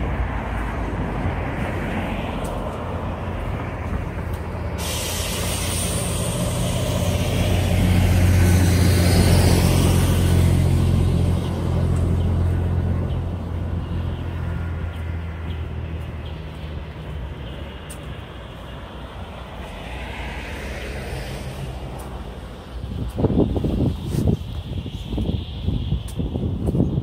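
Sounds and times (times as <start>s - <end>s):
large engine rumbling: 0.0s - 27.0s.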